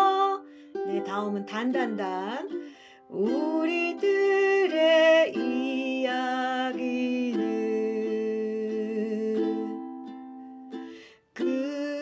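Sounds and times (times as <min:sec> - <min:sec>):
person singing: 0:00.0 - 0:12.0
ukulele strumming: 0:00.0 - 0:12.0.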